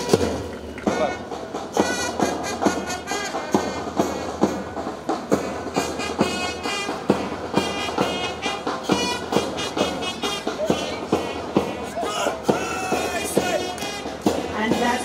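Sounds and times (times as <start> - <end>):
music with a steady beat: 0.0 - 15.0.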